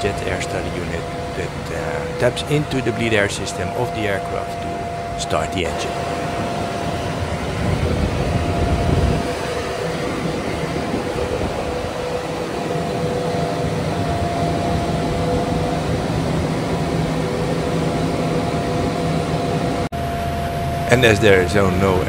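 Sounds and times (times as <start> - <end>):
air-conditioning unit whine and hum: 0.0 - 22.0
heavy rumble: 0.0 - 22.0.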